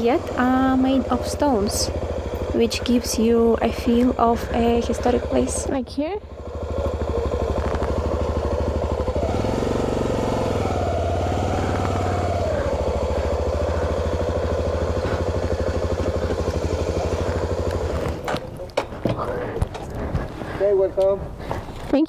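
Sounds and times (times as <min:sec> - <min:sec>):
motorcycle engine idling: 0:00.0 - 0:21.5.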